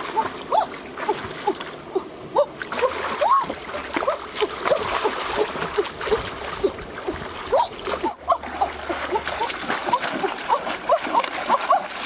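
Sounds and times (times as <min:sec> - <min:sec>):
water plinks: 0:00.0 - 0:12.0
water splashing and sloshing: 0:00.0 - 0:12.0.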